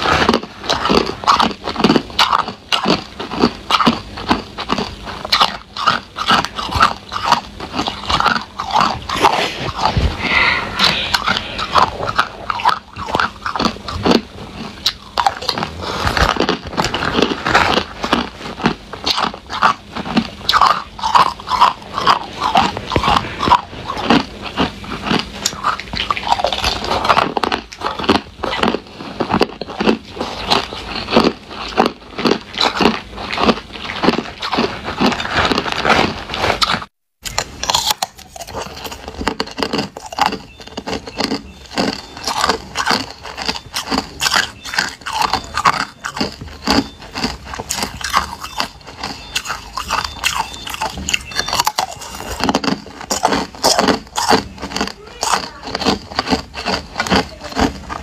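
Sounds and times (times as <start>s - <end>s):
ice crunched between teeth: 0.0s - 58.0s.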